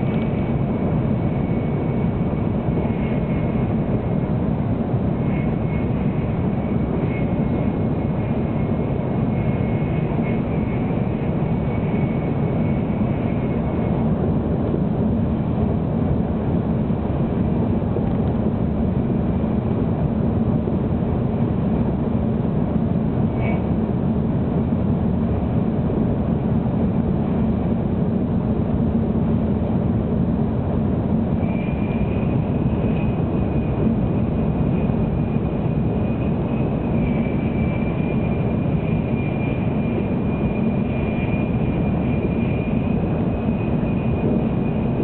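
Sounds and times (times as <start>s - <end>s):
faint high whine: 0.0s - 45.0s
train cabin low rumble: 0.0s - 45.0s.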